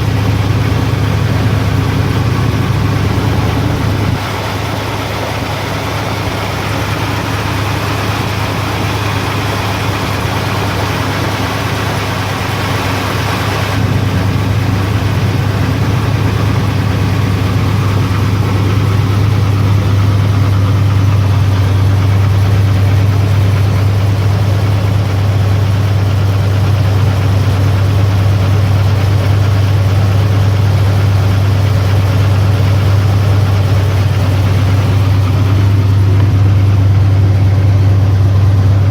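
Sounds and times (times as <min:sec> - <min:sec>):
engine idling: 0:00.0 - 0:38.9
engine knocking: 0:00.0 - 0:38.9.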